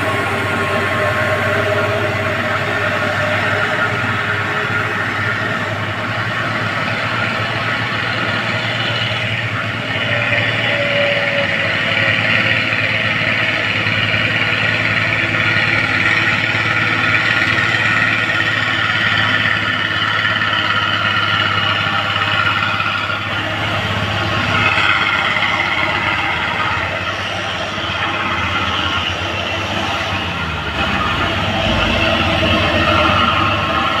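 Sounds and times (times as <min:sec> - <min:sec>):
diesel truck engine droning: 0:00.0 - 0:34.0.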